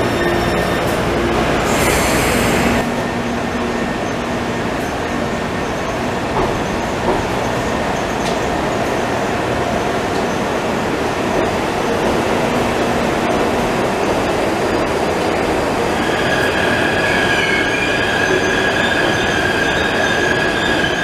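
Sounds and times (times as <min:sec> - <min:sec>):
departing train noise: 0:00.0 - 0:21.0
train wheels and motors rumbling: 0:00.0 - 0:21.0.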